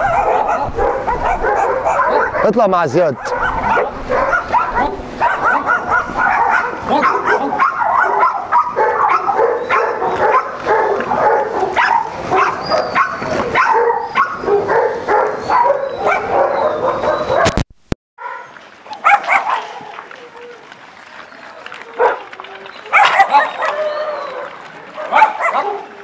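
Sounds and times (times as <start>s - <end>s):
dogs barking and yelping: 0.0s - 17.6s, 18.2s - 20.6s, 21.5s - 26.0s.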